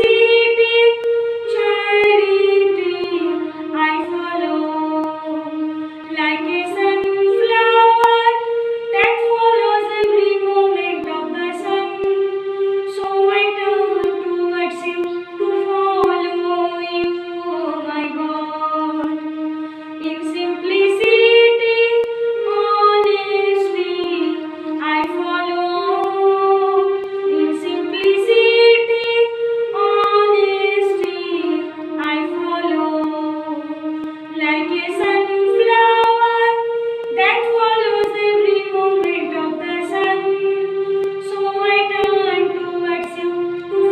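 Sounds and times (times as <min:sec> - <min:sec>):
woman singing unaccompanied: 0:00.0 - 0:19.2, 0:20.0 - 0:43.9.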